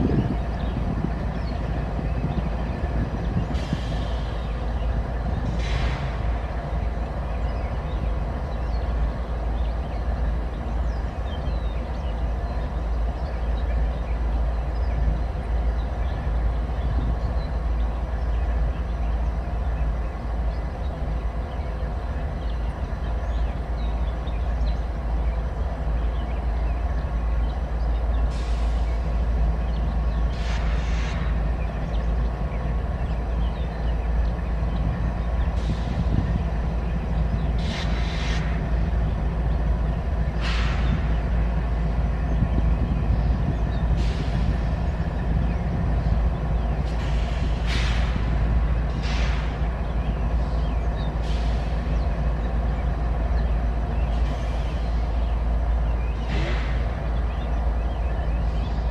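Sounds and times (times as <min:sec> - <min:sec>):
freight train wheels rumbling: 0:00.0 - 0:58.9
train cars rattling: 0:00.0 - 0:58.9.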